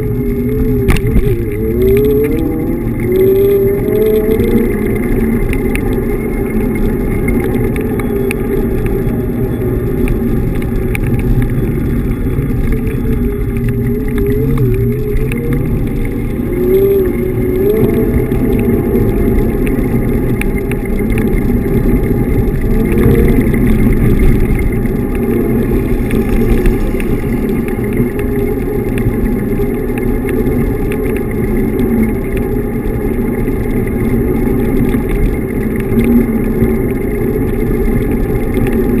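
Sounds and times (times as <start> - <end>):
electric scooter rolling: 0.0 - 39.0
thin whine wandering in pitch: 0.0 - 39.0.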